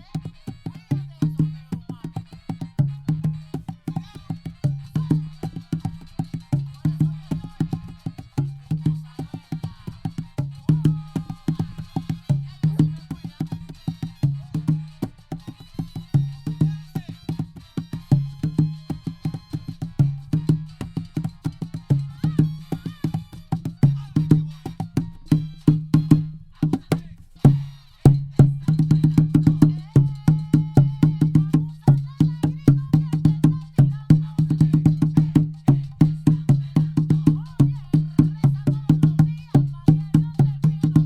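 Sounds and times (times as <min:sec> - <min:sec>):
conga played by hand: 0:00.0 - 0:41.0.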